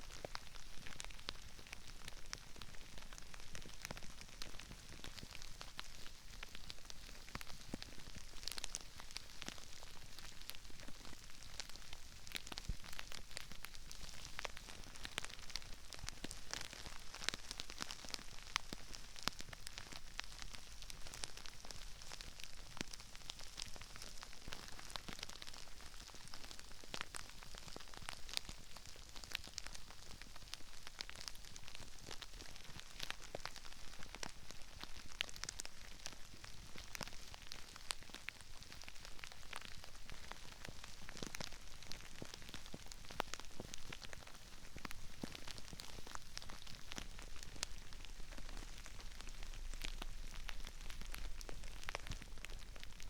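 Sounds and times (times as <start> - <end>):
crispy rice crackling and popping: 0.0 - 53.0.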